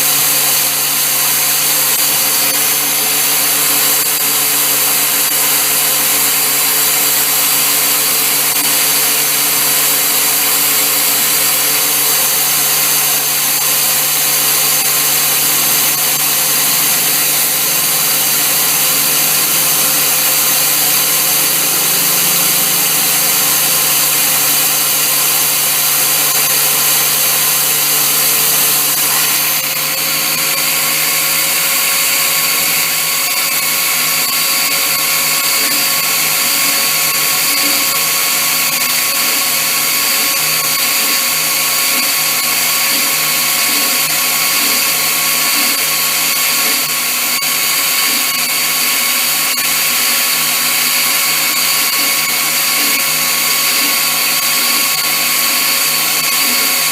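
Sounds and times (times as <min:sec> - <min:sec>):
power tool whining: 0:00.0 - 0:56.9.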